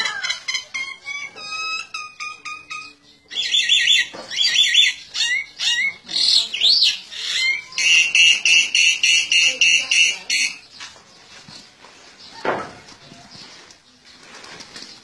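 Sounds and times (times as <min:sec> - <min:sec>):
bird chirping: 0:00.1 - 0:15.0.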